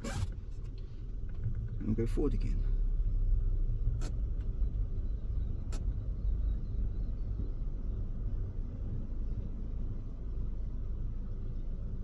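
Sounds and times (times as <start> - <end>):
van engine low rumble: 0.0 - 12.0.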